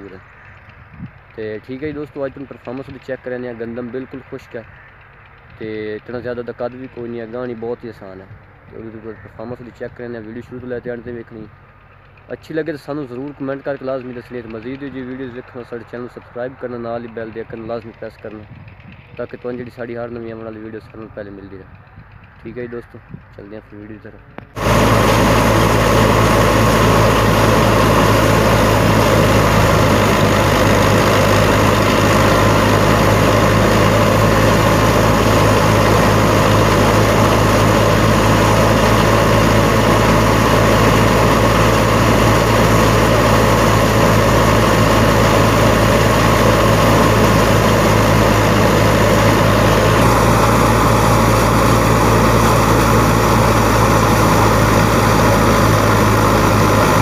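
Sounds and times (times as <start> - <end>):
thresher whirring: 0.0 - 57.0
tractor diesel engine running: 0.0 - 57.0.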